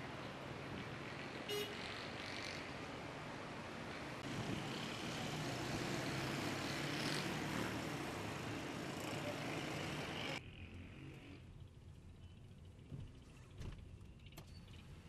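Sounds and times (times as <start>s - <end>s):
motor vehicles running and idling: 0.0s - 15.0s.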